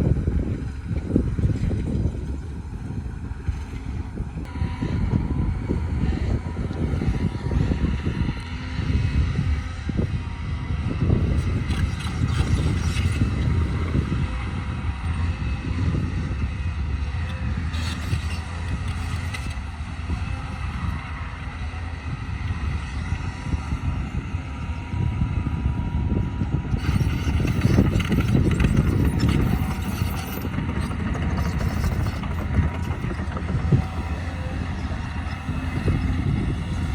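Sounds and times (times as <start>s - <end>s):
heavy engine rumbling: 0.0s - 36.9s.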